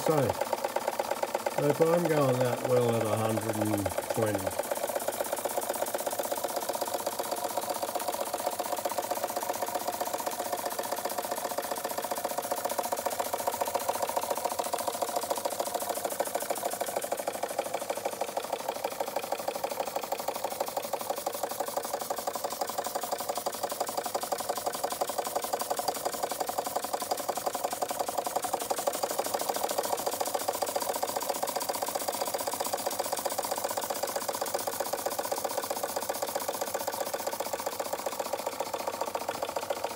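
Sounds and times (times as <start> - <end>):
toy steam engine ticking and chuffing: 0.0 - 39.9.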